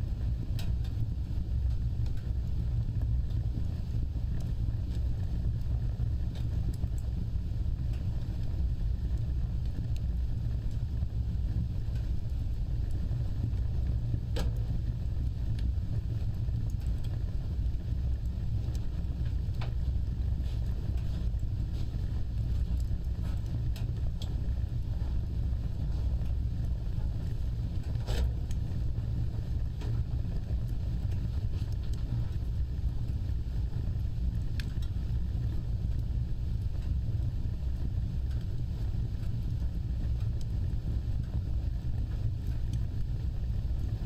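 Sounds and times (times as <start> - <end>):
fire rumbling and crackling: 0.0 - 44.0.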